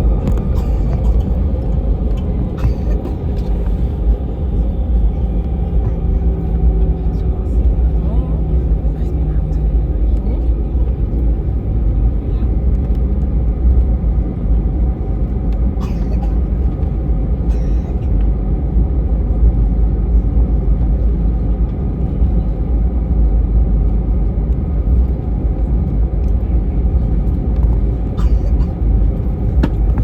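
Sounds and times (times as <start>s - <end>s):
aircraft cabin engine rumble: 0.0s - 30.0s.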